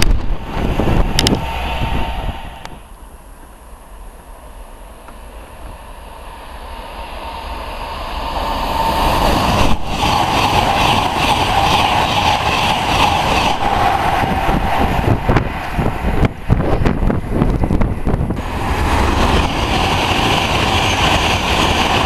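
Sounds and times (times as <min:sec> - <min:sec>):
passenger train passing: 0:00.0 - 0:22.0
sustained train whine: 0:00.0 - 0:22.0.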